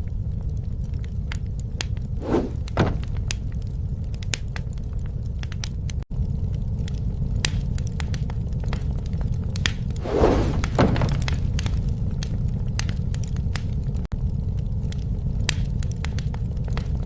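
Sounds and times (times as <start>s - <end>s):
wood fire crackling and popping: 0.0s - 17.0s
low rumble: 1.7s - 17.0s
crunching burst and crack: 1.8s - 17.0s.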